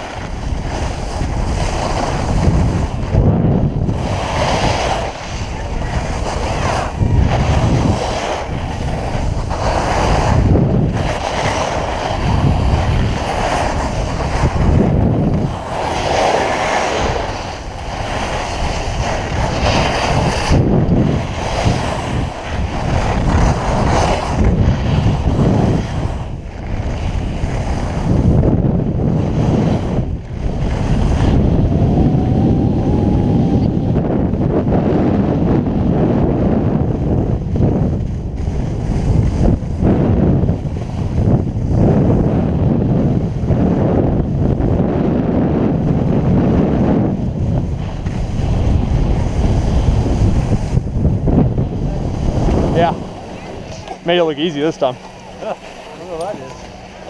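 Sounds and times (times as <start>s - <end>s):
skis scraping over snow: 0.0s - 32.1s, 33.9s - 57.0s
wind buffeting microphone: 0.0s - 57.0s.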